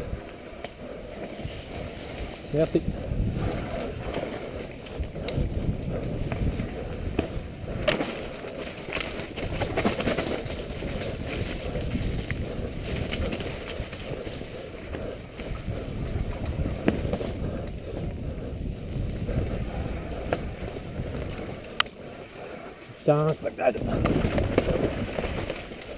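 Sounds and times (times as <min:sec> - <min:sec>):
wind buffeting microphone: 0:00.0 - 0:25.9
bike rattling and knocking: 0:01.2 - 0:22.0, 0:23.1 - 0:25.9.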